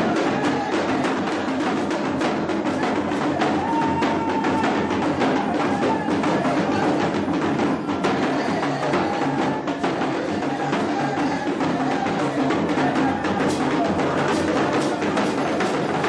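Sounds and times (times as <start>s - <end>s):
hand drum beaten rapidly: 0.0s - 16.0s.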